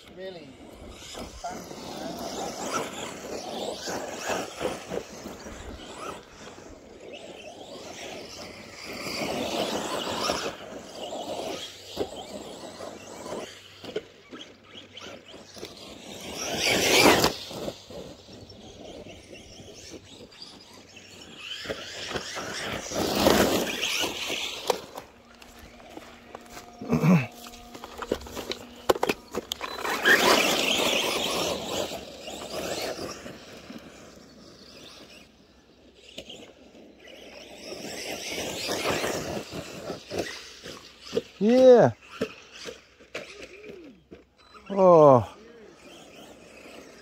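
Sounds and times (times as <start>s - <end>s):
rc truck motor and tyres: 0.0s - 47.0s.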